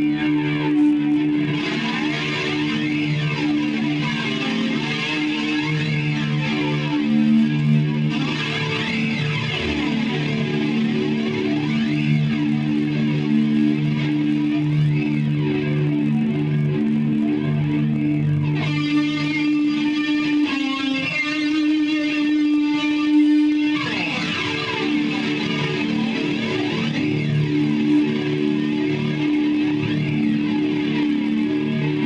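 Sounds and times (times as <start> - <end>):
electric guitar held notes: 0.0 - 32.0.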